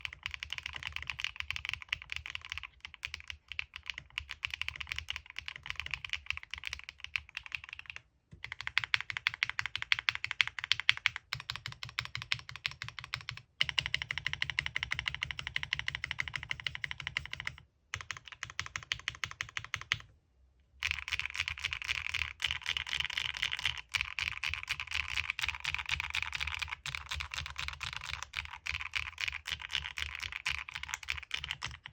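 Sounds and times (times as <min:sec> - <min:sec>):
mechanical keyboard typing: 0:00.0 - 0:20.1, 0:20.8 - 0:31.9.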